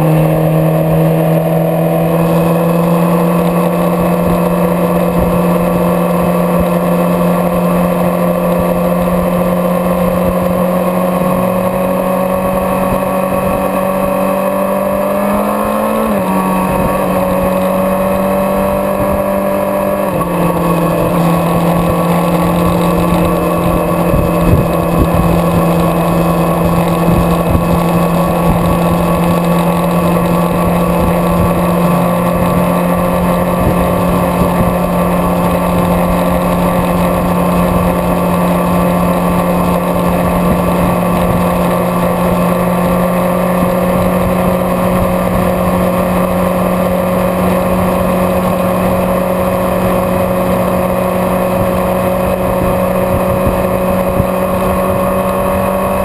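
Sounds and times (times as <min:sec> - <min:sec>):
road rumble: 0:00.0 - 0:56.0
vehicle engine cruising: 0:00.0 - 0:56.0
wind: 0:00.0 - 0:56.0.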